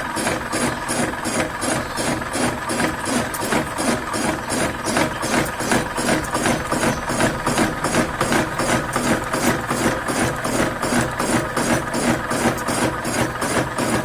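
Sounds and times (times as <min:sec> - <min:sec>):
machinery with rapid clatter: 0:00.0 - 0:14.0.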